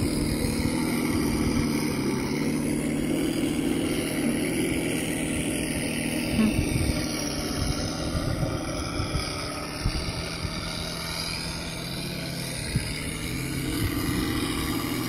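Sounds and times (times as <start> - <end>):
simulated plane engine idling: 0.0 - 15.0
wind rumble on microphone: 0.0 - 15.0.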